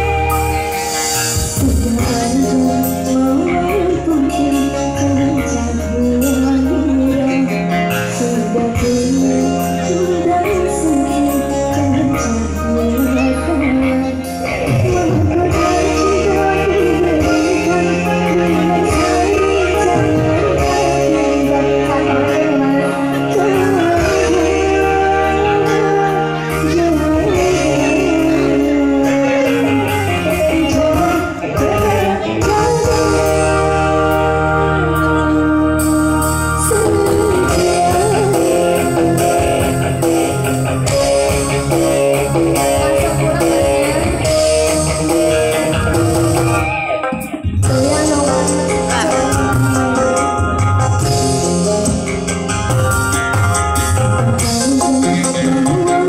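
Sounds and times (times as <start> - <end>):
electronic organ accompaniment: 0.0 - 56.0
keyboard chords: 0.0 - 56.0
steady bass line: 0.0 - 56.0
woman singing into a microphone: 0.0 - 56.0.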